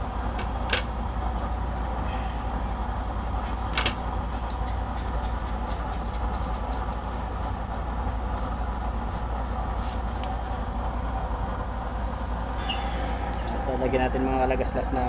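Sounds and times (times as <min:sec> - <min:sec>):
gas burner rumble: 0:00.0 - 0:15.0.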